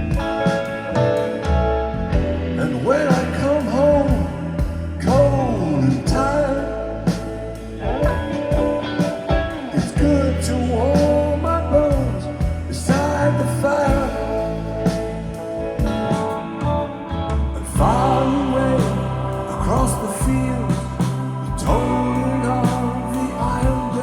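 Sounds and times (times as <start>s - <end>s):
song through loudspeakers: 0.0s - 24.0s.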